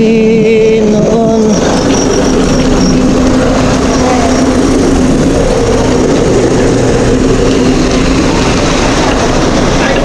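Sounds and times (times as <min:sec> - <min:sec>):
low hum: 0:00.0 - 0:10.0
wind and road noise: 0:00.0 - 0:10.0.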